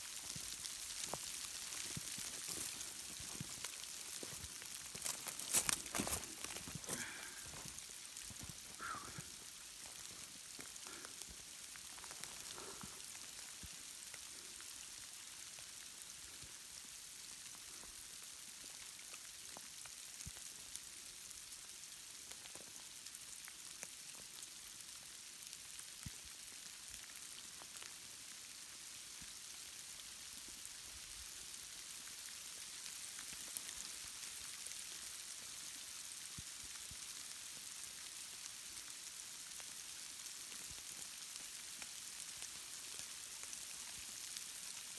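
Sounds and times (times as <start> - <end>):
wet snow hissing and ticking: 0.0 - 44.9.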